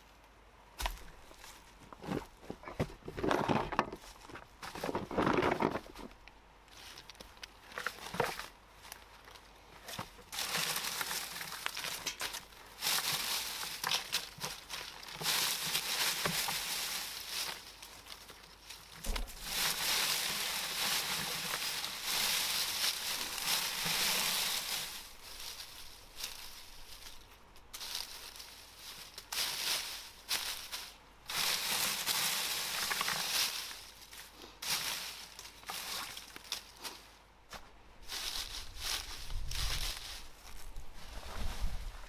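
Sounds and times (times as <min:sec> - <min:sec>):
dry leaves and twigs crackling: 0:00.0 - 0:42.0.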